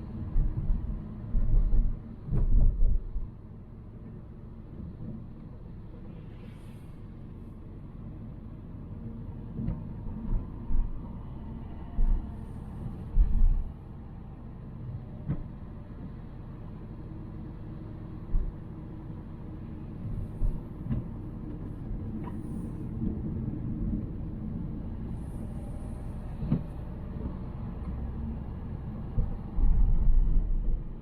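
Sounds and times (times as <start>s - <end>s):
car engine and road rumble: 0.0s - 31.0s.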